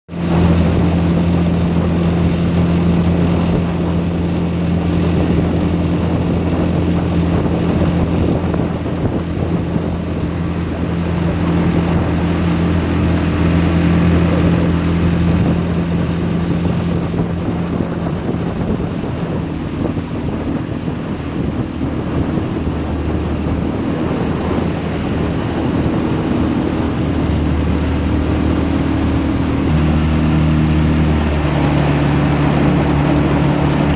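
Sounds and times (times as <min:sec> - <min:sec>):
boat motor running: 0:00.1 - 0:33.9.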